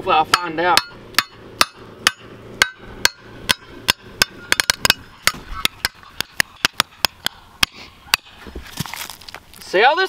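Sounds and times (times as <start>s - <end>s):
hatchet chopping into dirt: 0.3s - 9.2s.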